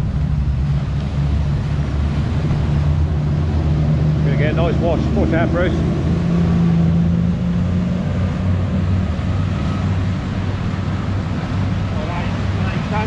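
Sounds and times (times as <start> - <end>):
boat diesel engines droning: 0.0 - 13.0
wake washing onto slipway: 0.0 - 13.0.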